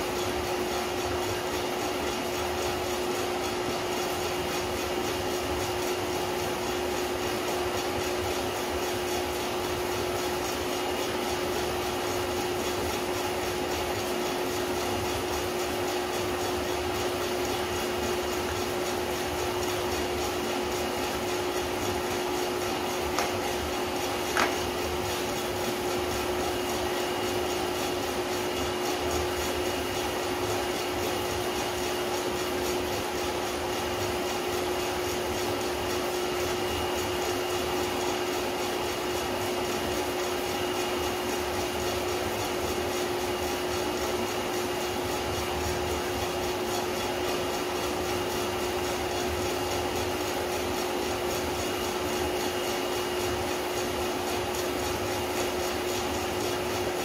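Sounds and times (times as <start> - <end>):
motor and fan hum: 0.0 - 57.0.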